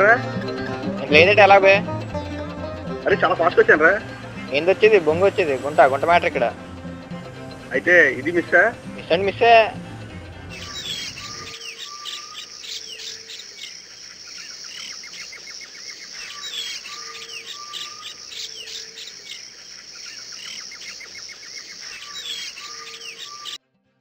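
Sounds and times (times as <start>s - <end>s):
birds chirping: 0.0s - 23.6s
insects droning: 0.0s - 23.6s.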